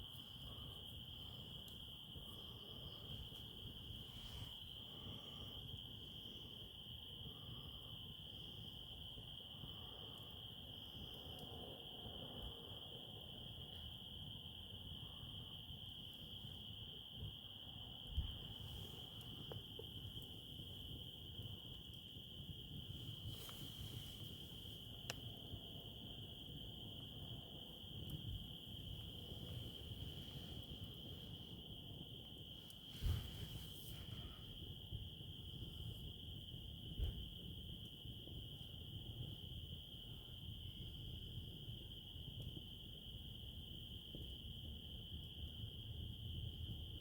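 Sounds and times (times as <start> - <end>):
low background rumble: 0.0 - 44.5
crickets chirring: 0.0 - 47.0
insects trilling: 0.0 - 47.0.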